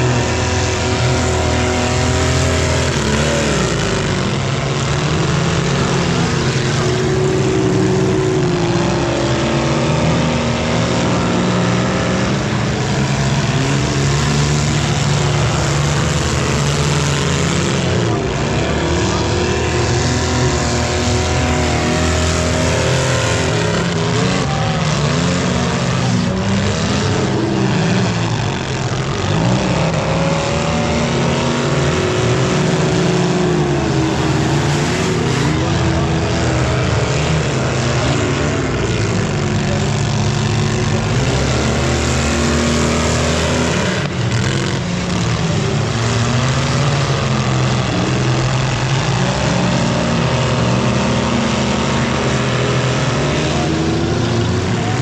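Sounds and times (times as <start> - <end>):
car engines racing and revving: 0.0 - 55.0.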